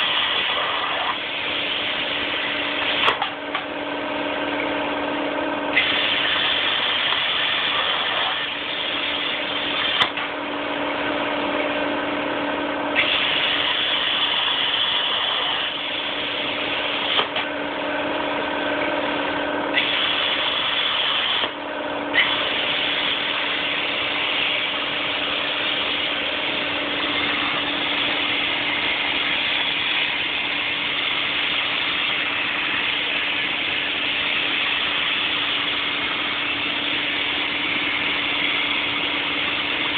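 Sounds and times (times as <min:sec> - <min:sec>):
plasma torch hissing: 0:00.0 - 0:03.3, 0:05.7 - 0:10.2, 0:13.0 - 0:17.5, 0:19.7 - 0:39.9
steady machine hum: 0:00.0 - 0:39.9.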